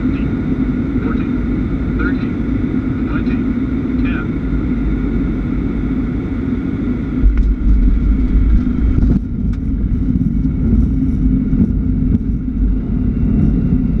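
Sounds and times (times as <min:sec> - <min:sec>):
jet engine and airflow rumble: 0:00.0 - 0:14.0.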